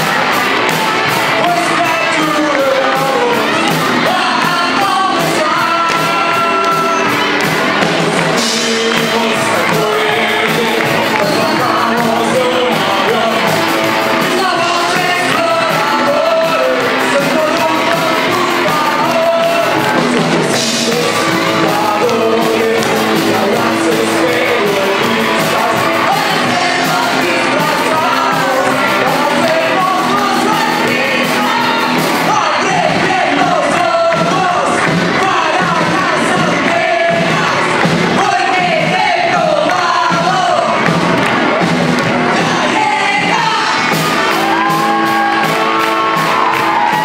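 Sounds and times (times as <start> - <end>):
people shouting: 0.0 - 40.8, 42.2 - 47.0
drum kit: 0.0 - 47.0
electric guitar: 0.0 - 47.0
group of singers: 0.0 - 47.0
lead singer singing: 0.0 - 47.0.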